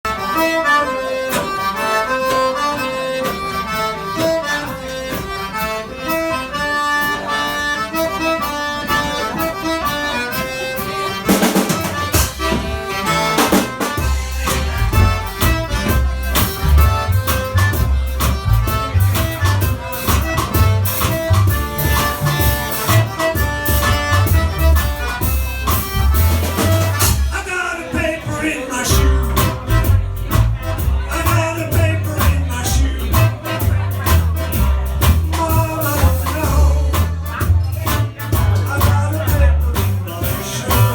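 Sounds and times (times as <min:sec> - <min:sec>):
accordion playing tune: 0:00.1 - 0:40.9
band playing: 0:00.1 - 0:40.9
drums: 0:00.1 - 0:40.9.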